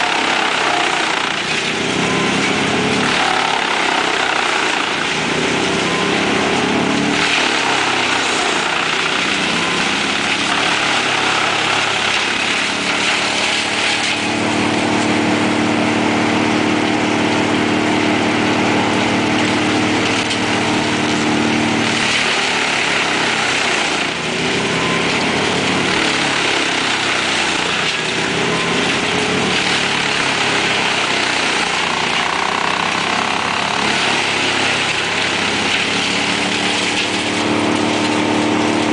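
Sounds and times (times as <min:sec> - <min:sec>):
droning engine tone: 0:00.0 - 0:38.9
wood chipper running: 0:00.0 - 0:38.9.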